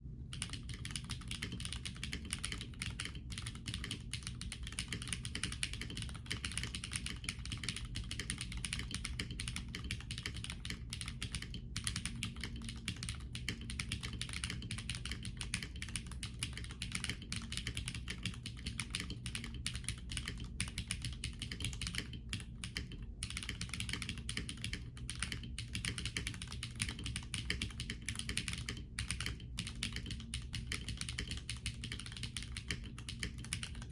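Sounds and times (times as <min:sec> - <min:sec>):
fast mechanical keyboard typing: 0:00.3 - 0:33.9.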